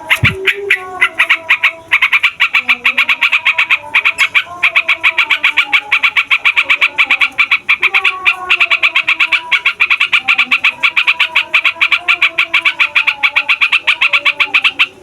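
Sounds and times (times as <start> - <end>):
bird singing chattering notes: 0.0 - 15.0.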